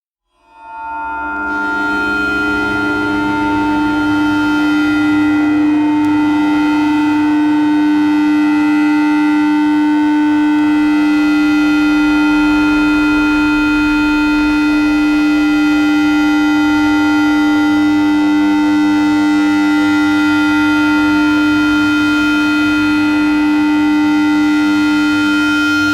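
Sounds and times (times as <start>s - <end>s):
steady electronic tone: 0.3s - 25.9s.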